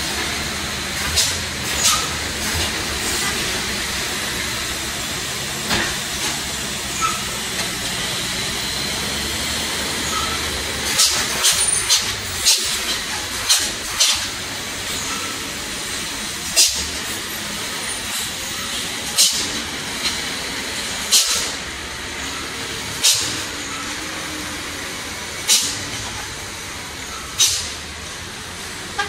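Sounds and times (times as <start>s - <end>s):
diesel trucks driving uphill: 0.0s - 29.0s.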